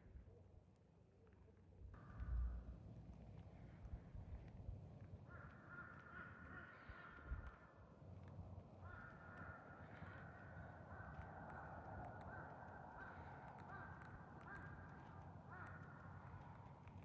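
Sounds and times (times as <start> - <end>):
faint crows cawing: 2.0 - 17.0.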